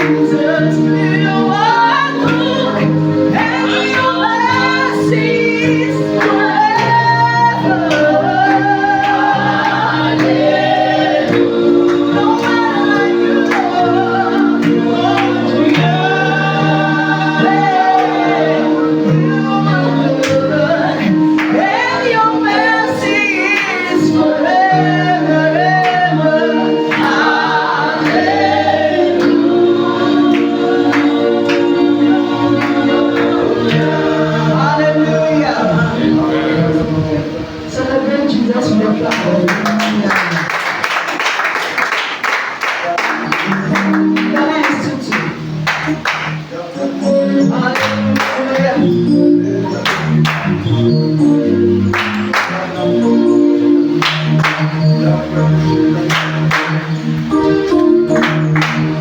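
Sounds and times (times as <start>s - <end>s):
held chords: 0.0s - 40.7s, 42.8s - 59.0s
choir singing worship song: 0.0s - 59.0s.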